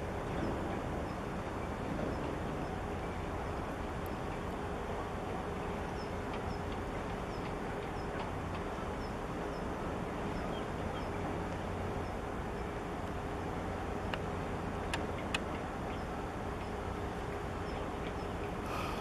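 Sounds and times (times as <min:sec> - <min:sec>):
faint steady hum: 0:00.0 - 0:19.0
outdoor rumble and hiss: 0:00.0 - 0:19.0.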